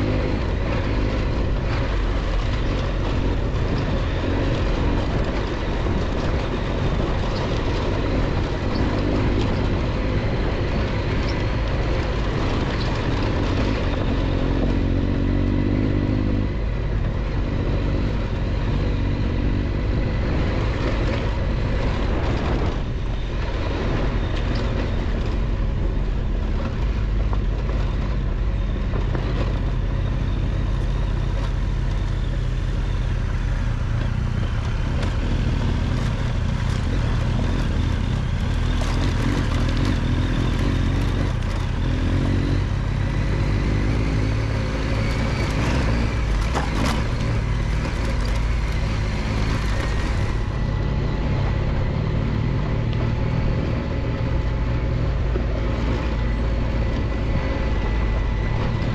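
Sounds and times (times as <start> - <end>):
motorcycle engine running: 0.0 - 58.9
wind and road noise: 0.0 - 58.9.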